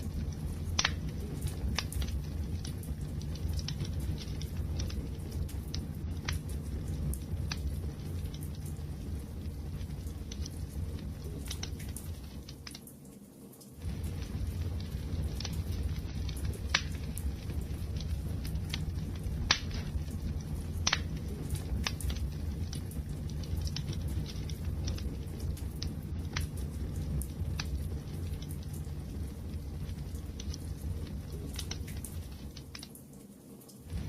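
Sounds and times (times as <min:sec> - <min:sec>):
burning logs crackling and popping: 0:00.0 - 0:34.0
low rumble of flames: 0:00.0 - 0:34.0.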